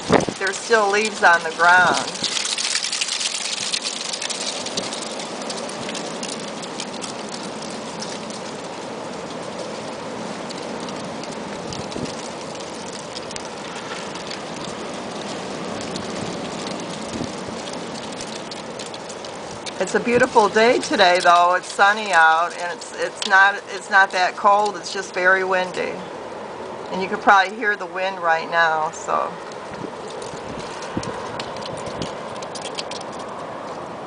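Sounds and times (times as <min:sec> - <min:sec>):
dry leaves scraping along pavement: 0:00.0 - 0:34.0
high wind: 0:00.0 - 0:34.0.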